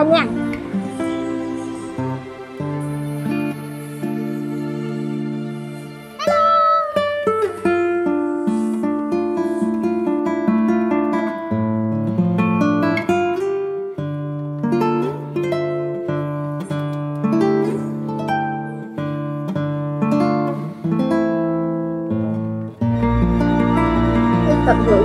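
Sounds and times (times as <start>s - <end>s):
plucked acoustic guitar: 0.0s - 5.4s, 6.1s - 25.0s.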